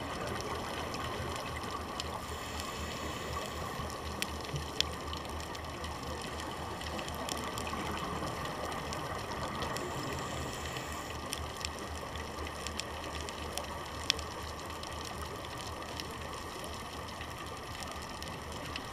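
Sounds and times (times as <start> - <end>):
underwater noise wash: 0.0 - 18.9.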